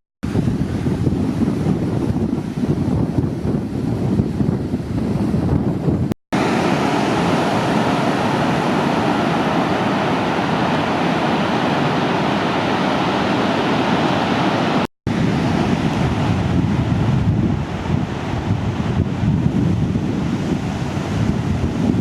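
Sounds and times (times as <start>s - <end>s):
surf breaking on beach: 0.2s - 22.0s
wind buffeting microphone: 0.2s - 22.0s.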